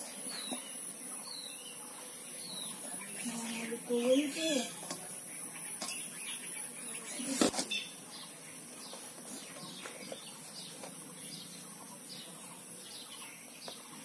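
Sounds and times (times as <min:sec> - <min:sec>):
small birds chirping: 0:00.0 - 0:14.0
steady high hiss: 0:00.0 - 0:14.0.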